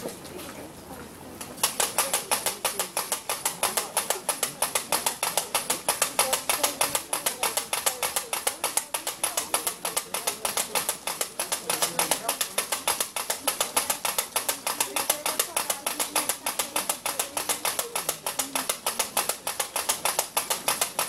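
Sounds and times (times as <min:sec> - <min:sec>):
wooden ratchet clacking fast: 0:01.6 - 0:21.0.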